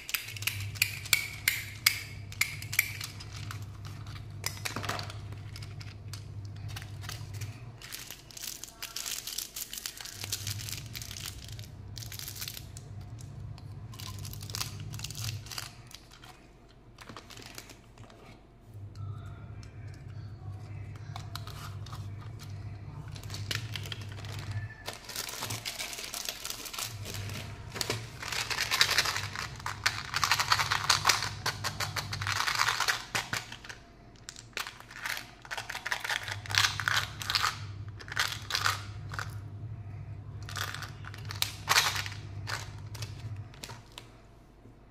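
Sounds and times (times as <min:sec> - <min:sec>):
plastic packaging crinkling: 0:00.0 - 0:18.4, 0:20.8 - 0:39.4, 0:40.4 - 0:44.2
low hum: 0:00.0 - 0:44.9.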